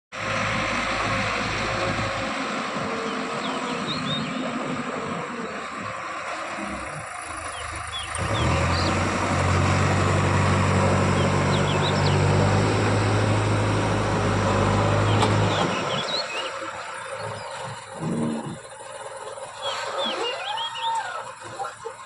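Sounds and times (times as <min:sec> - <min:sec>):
diesel engine revving: 0:00.1 - 0:22.0
birds chirping: 0:01.4 - 0:09.4, 0:10.8 - 0:22.0.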